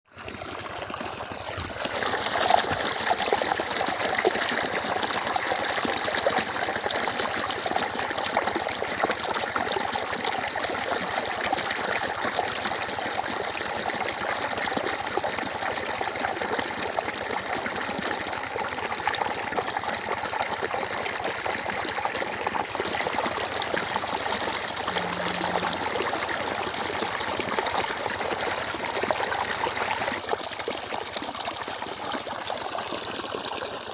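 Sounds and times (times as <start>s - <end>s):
water flowing: 0.1s - 33.9s.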